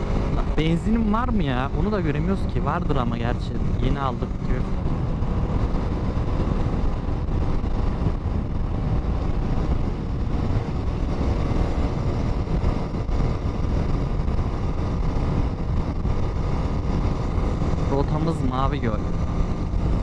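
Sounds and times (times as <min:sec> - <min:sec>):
motorcycle engine running: 0:00.0 - 0:20.0
road noise: 0:00.0 - 0:20.0
wind rushing: 0:00.0 - 0:20.0.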